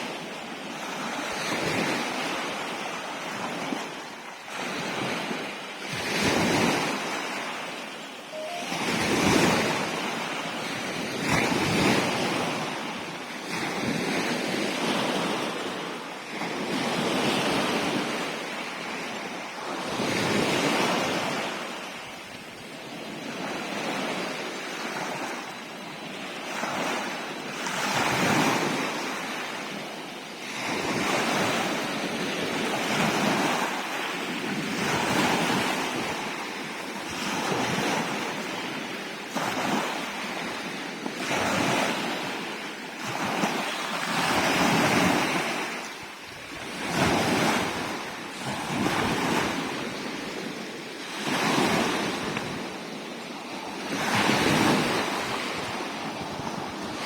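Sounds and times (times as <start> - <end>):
sea waves washing: 0.9 - 25.3, 26.1 - 57.0.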